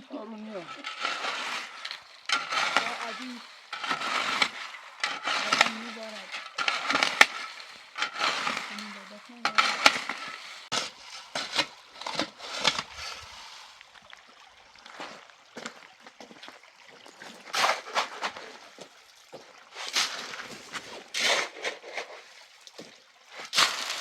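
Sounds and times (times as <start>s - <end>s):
liquid sloshing: 0.0s - 24.0s.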